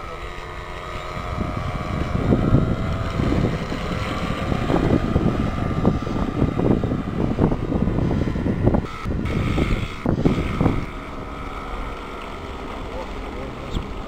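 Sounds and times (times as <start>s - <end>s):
distant airplane engine drone: 0.0s - 14.0s
wind buffeting microphone: 0.0s - 14.0s.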